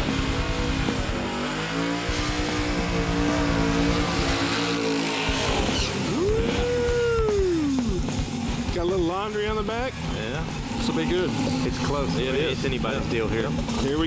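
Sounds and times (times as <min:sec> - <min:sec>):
car engine revving high: 0:00.0 - 0:08.7, 0:09.3 - 0:14.0.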